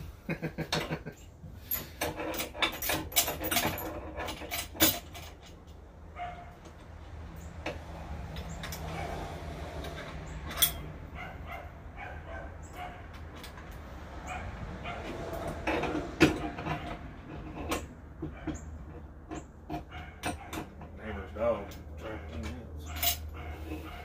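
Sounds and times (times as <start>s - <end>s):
tools clicking and knocking: 0.6s - 5.9s, 6.6s - 9.1s, 9.7s - 11.0s, 12.3s - 24.0s.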